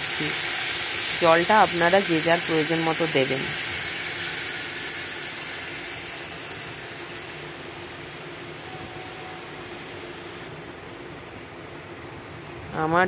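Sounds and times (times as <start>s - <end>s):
gravy hissing and bubbling: 0.0s - 10.5s.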